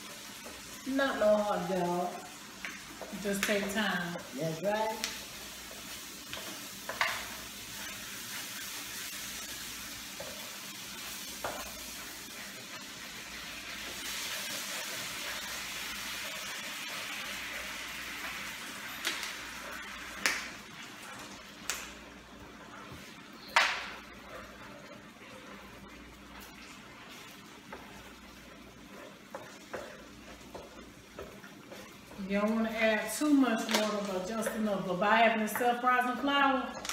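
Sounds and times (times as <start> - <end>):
gravy sizzling in a pan: 0.0 - 36.9.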